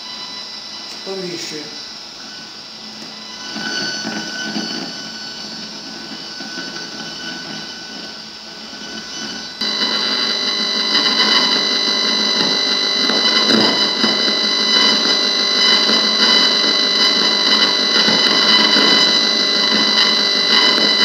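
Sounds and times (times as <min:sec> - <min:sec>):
high whistling tones: 0:00.0 - 0:21.0.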